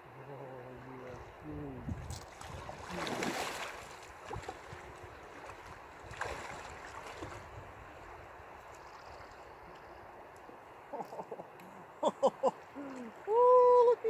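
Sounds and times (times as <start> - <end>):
river water lapping and splashing: 0.6 - 14.0.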